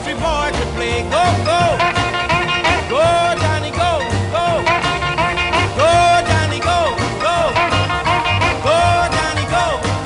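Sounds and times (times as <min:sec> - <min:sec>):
music with bass beat: 0:00.0 - 0:10.0.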